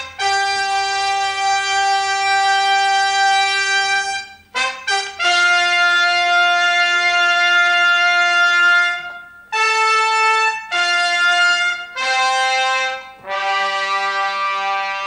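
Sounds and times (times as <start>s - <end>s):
trumpets playing long notes: 0.0s - 15.0s.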